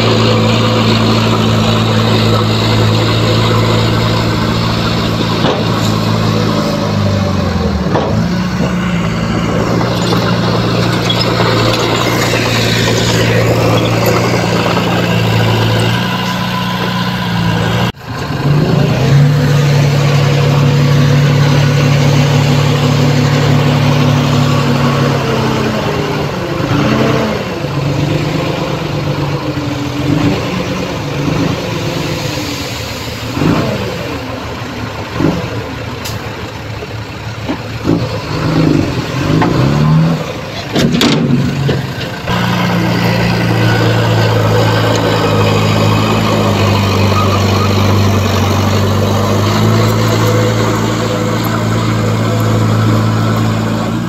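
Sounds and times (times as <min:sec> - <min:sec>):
diesel engines running: 0:00.0 - 0:54.0
engines revving: 0:00.0 - 0:54.0.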